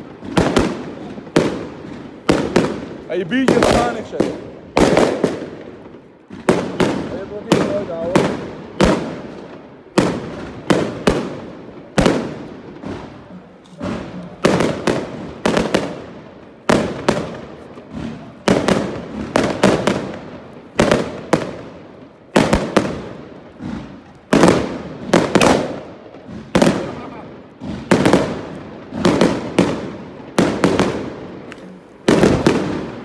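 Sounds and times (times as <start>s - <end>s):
firecrackers banging: 0.0s - 33.0s.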